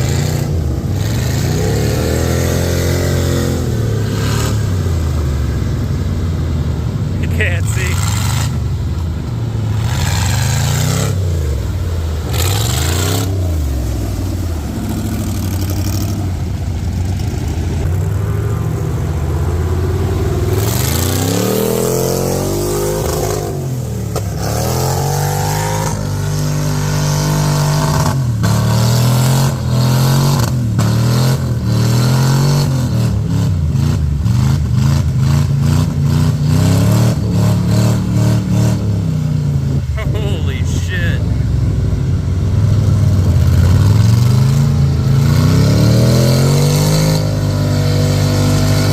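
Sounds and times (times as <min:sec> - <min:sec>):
truck engine revving hard: 0:00.0 - 0:05.4, 0:07.2 - 0:08.9, 0:09.5 - 0:16.4, 0:17.1 - 0:41.6, 0:42.9 - 0:48.9.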